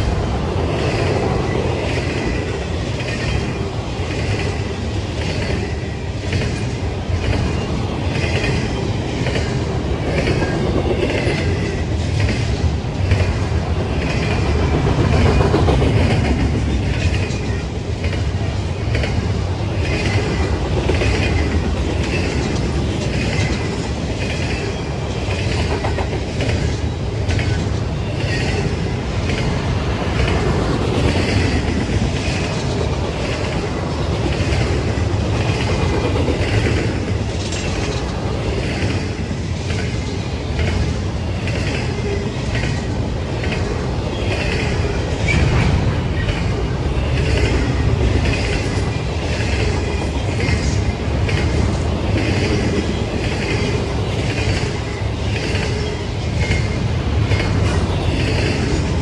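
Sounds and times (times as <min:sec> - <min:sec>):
railroad cars rumbling: 0:00.0 - 0:59.0
train wheels clacking over rail joints: 0:00.7 - 0:59.0.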